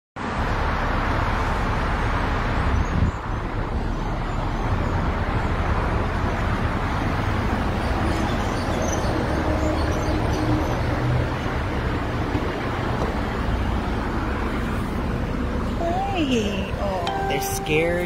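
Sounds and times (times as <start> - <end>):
road traffic noise: 0.2 - 18.0.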